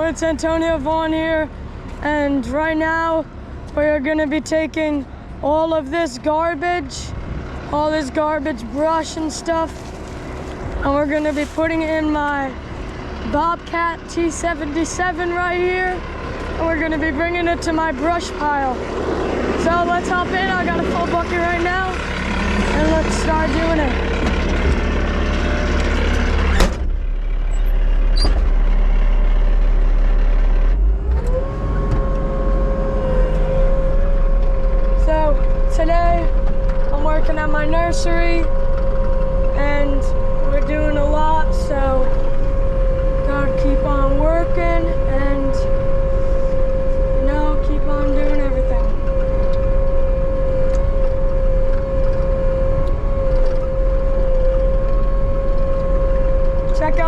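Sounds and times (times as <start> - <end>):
diesel engine rumbling and revving: 0.0 - 57.0
high-pitched whine: 7.0 - 57.0.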